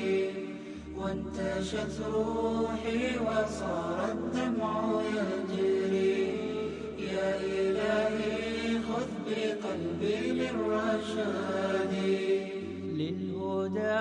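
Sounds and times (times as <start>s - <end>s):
voices chanting a melody: 0.0s - 12.9s
low steady drone: 0.0s - 13.2s.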